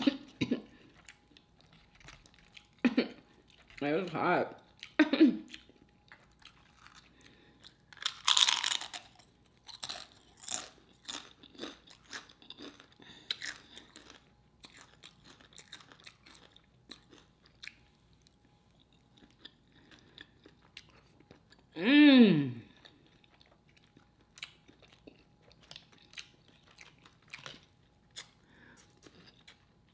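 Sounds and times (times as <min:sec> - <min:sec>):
crunchy chewing: 0:00.8 - 0:03.8, 0:04.6 - 0:21.7, 0:22.7 - 0:29.9.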